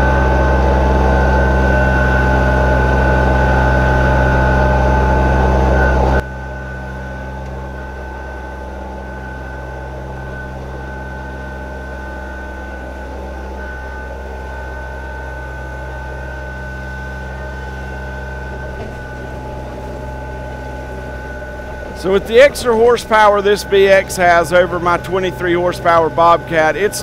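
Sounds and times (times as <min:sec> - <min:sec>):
high-pitched tone: 0:00.0 - 0:27.0
tractor diesel engine running: 0:00.0 - 0:27.0.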